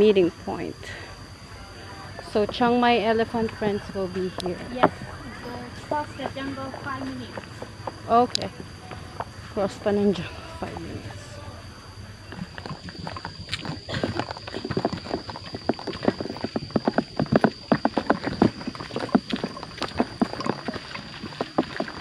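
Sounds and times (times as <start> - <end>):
high insect drone: 0.0 - 22.0
sandal footsteps on dirt path: 2.3 - 11.2, 12.1 - 22.0.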